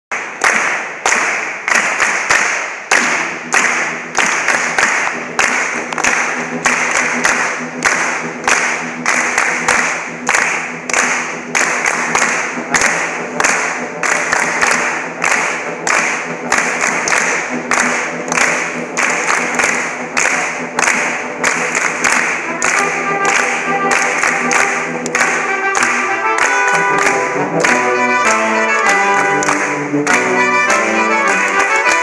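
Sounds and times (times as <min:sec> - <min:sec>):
hand claps in rhythm: 0:00.1 - 0:32.0.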